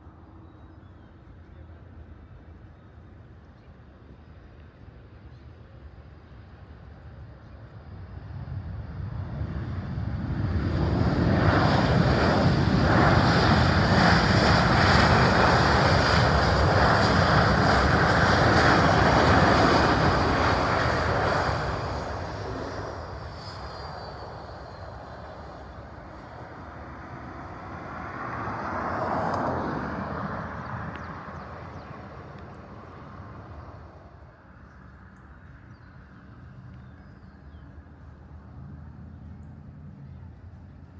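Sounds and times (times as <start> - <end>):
airplane engines passing: 0.0 - 40.9.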